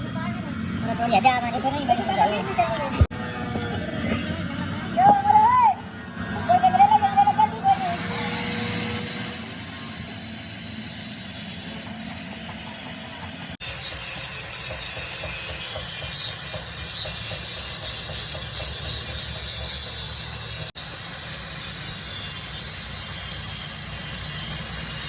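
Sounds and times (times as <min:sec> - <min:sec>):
workshop machinery hissing: 0:00.0 - 0:25.0.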